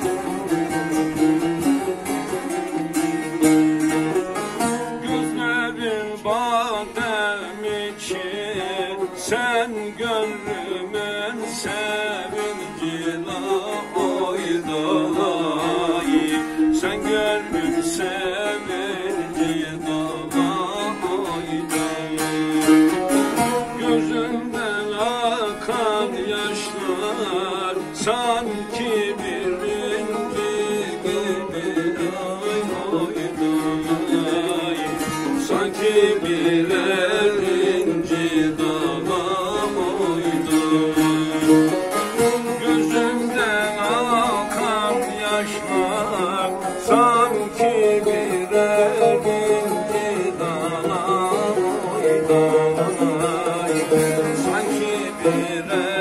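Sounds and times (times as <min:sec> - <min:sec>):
plucked long-necked lute melody: 0:00.0 - 0:56.0.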